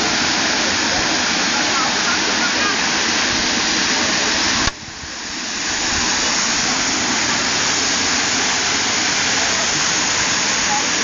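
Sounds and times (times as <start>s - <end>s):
water spray falling on street: 0.0s - 11.0s.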